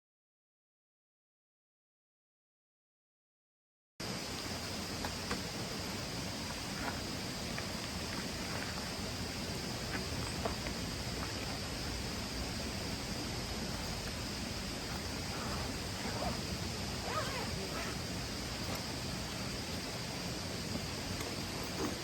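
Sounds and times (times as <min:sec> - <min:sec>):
background hiss: 0:04.0 - 0:22.0
high insect drone: 0:04.0 - 0:22.0.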